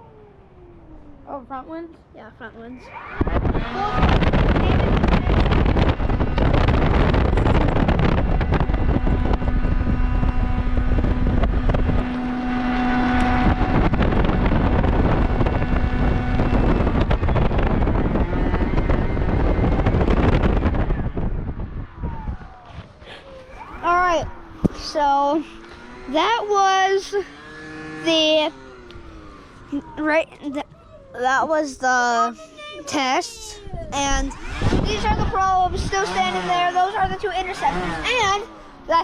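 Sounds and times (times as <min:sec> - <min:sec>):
motor hum and whine: 0:00.0 - 0:39.0
blower rushing air: 0:02.7 - 0:39.0.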